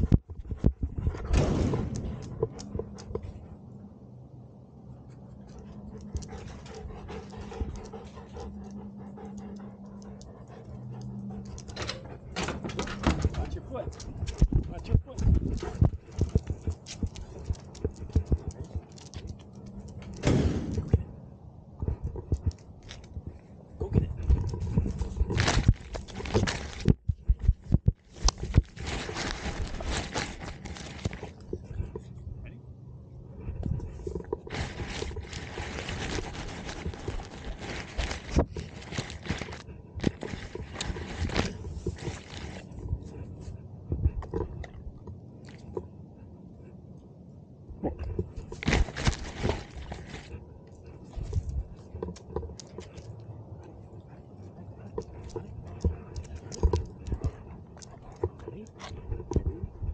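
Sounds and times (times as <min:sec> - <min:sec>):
dog panting: 0:01.9 - 0:03.9, 0:04.9 - 0:20.2, 0:20.8 - 0:32.4, 0:33.1 - 0:59.9.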